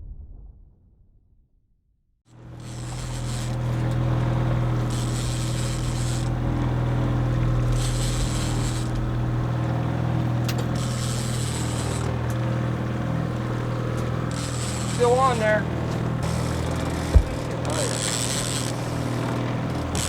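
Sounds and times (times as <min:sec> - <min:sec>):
boat motor humming: 0:02.3 - 0:20.0.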